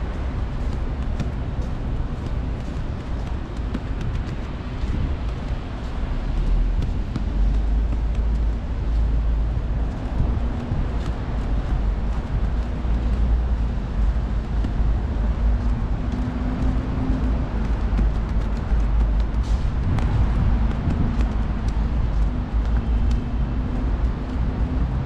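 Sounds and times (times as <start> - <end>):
faint engine hum: 0.0 - 25.0
street traffic rumble: 0.0 - 25.0.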